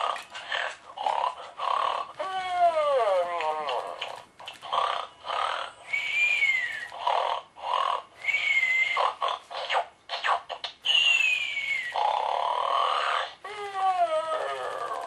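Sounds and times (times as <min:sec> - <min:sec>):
toy electronic snoring: 0:00.0 - 0:09.8, 0:10.8 - 0:15.0.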